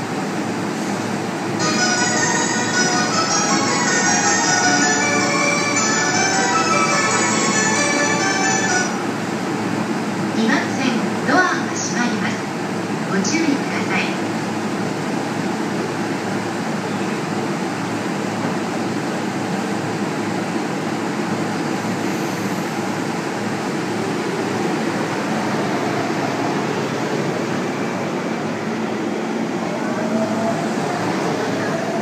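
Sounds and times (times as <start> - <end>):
electric train humming: 0.0 - 32.0.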